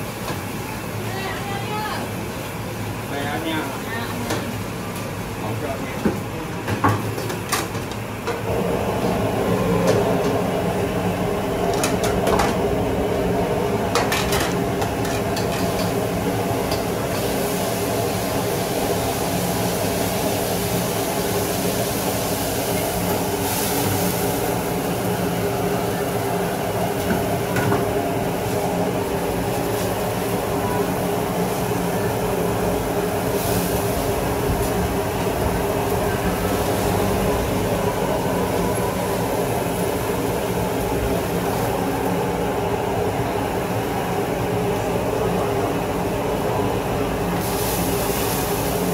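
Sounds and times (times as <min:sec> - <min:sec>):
gas burner roaring: 0:00.0 - 0:48.9.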